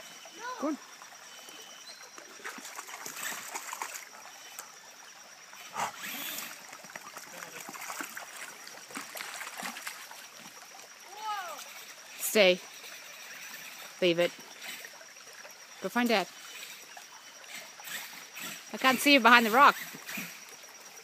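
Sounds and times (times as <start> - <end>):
creek trickling over stones: 0.0 - 21.0
small splashes: 0.0 - 21.0.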